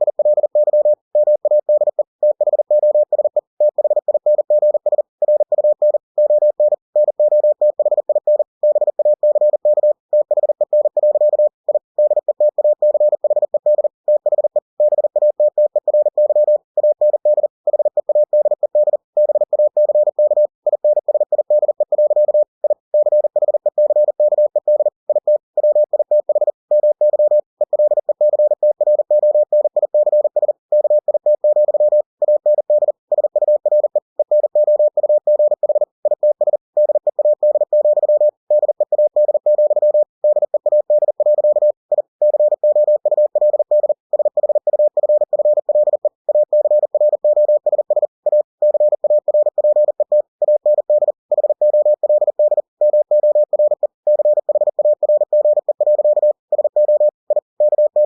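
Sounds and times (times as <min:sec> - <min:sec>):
morse code tone beeping: 0:00.0 - 0:58.0.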